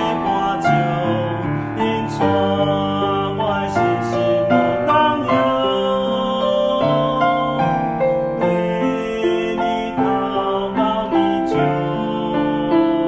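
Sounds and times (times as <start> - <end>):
person singing worship song: 0.0 - 13.0
piano chords: 0.0 - 13.0.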